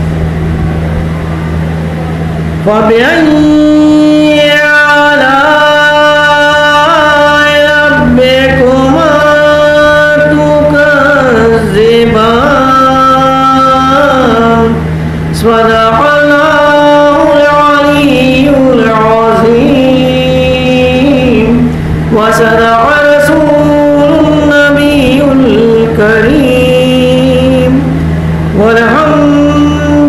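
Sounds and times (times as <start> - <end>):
steady low hum: 0.0 - 30.0
man chanting: 2.4 - 30.0.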